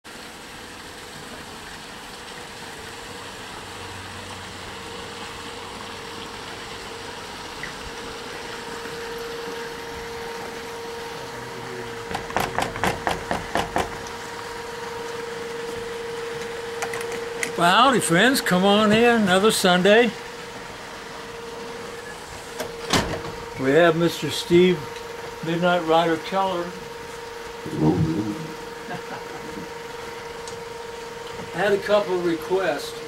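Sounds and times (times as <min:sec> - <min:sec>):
steady machine hum: 0:00.1 - 0:33.0.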